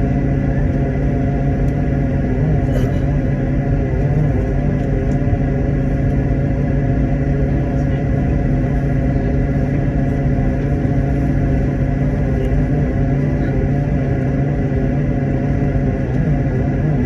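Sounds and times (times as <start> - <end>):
aircraft cabin engine rumble: 0.0 - 17.0
steady humming tones: 0.0 - 17.0.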